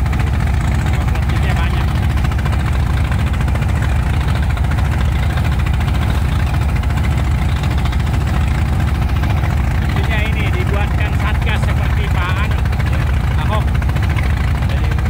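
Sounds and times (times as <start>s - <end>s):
motor boat engine droning: 0.0s - 15.0s.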